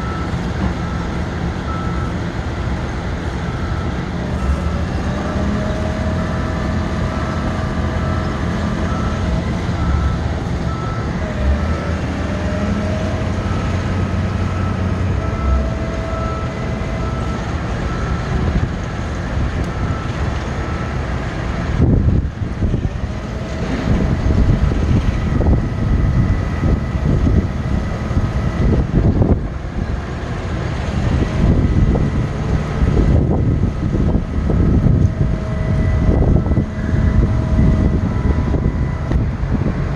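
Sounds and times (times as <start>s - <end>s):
truck engine rumble: 0.0s - 39.9s.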